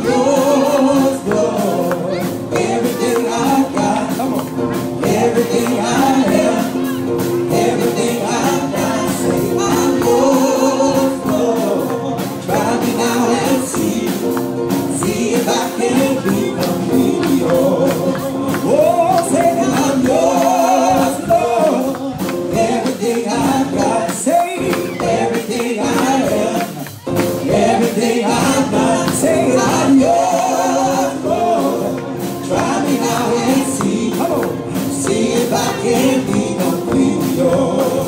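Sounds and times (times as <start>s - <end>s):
choir and congregation singing: 0.0s - 38.0s.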